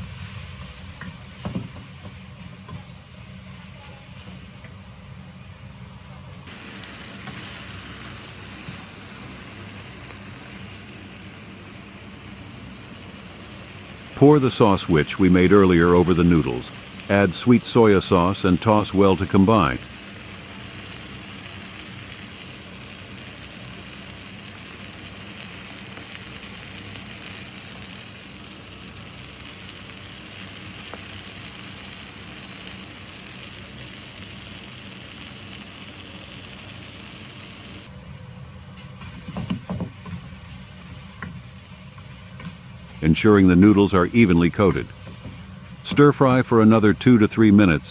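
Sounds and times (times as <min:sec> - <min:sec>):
noodles sizzling in a wok: 0:00.0 - 0:04.6, 0:06.5 - 0:37.9, 0:39.0 - 0:43.0.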